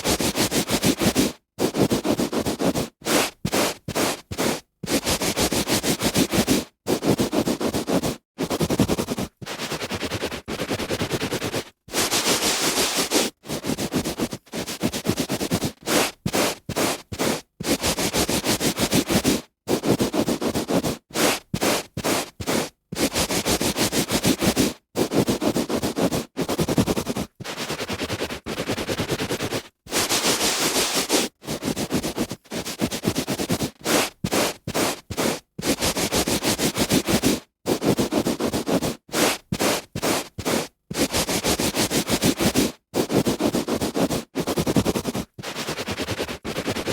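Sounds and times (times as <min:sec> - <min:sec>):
hand rubbing on carpet: 0:00.0 - 0:46.9.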